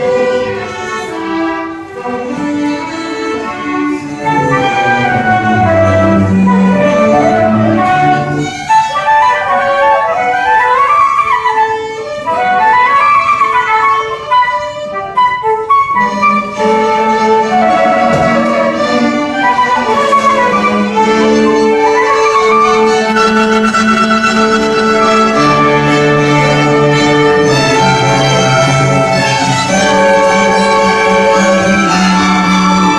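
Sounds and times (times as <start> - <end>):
flute and violins melody: 0.0 - 32.9.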